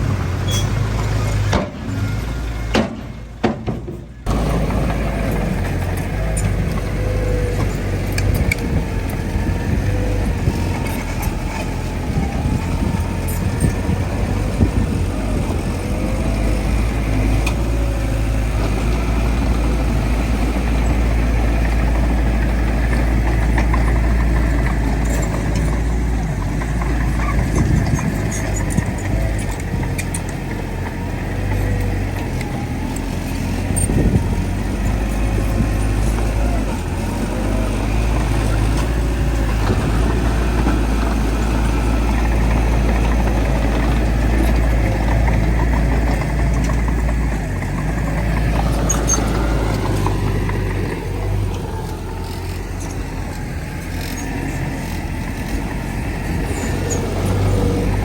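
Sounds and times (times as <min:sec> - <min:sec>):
heavy diesel machinery rumbling: 0:00.0 - 0:58.0.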